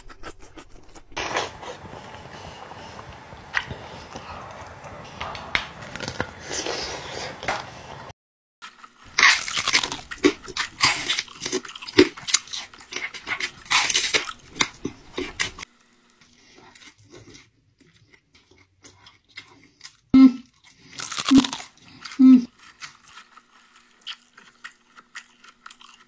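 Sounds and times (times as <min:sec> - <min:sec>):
crunching raw vegetables: 0:00.0 - 0:08.0, 0:08.6 - 0:15.6, 0:16.4 - 0:26.0.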